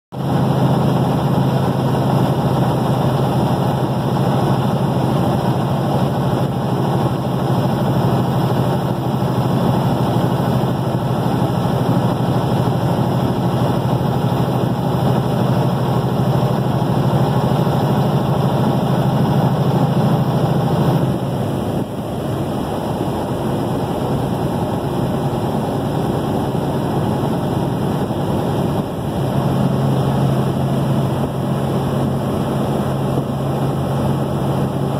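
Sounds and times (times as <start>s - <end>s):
vehicle engine and road noise: 0.1s - 34.9s.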